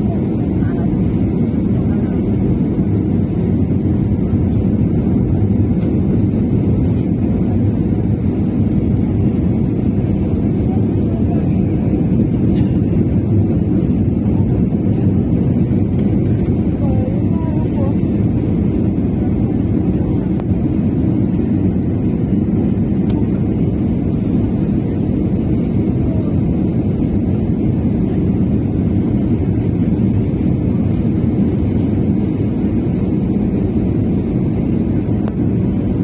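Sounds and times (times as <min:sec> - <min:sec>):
airliner engines roaring: 0:00.0 - 0:36.0.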